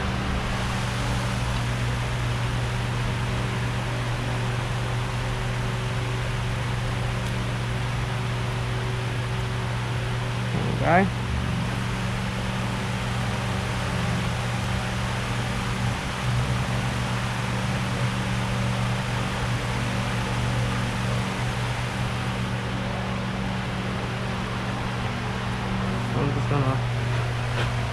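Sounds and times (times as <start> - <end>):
steady mechanical hum with hiss: 0.0 - 27.9.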